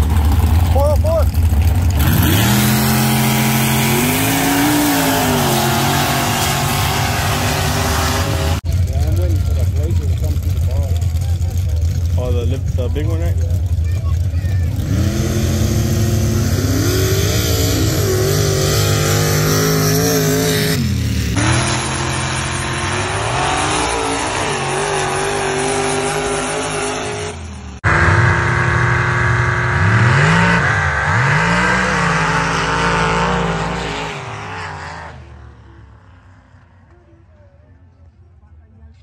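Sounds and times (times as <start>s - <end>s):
truck engines revving hard: 0.0s - 36.8s.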